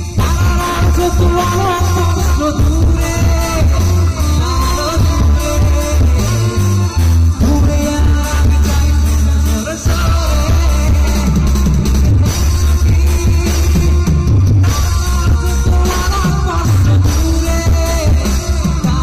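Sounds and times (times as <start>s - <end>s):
drums: 0.0s - 19.0s
electric bass sliding notes: 0.0s - 19.0s
electric guitar: 0.0s - 19.0s
keyboard: 0.0s - 19.0s.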